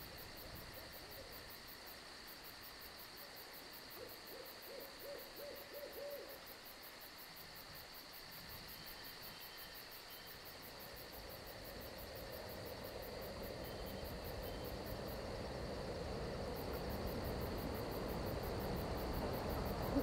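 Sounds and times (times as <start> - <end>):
crickets chirping: 0.0 - 20.0
low noisy background: 0.0 - 20.0.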